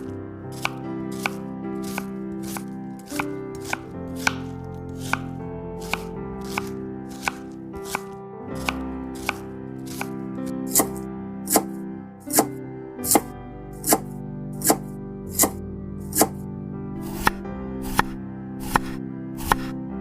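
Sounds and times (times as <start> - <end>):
background music of sustained notes: 0.0 - 20.0
knife chopping on cutting board: 0.6 - 10.1, 10.7 - 11.7, 12.3 - 16.4, 17.0 - 19.7.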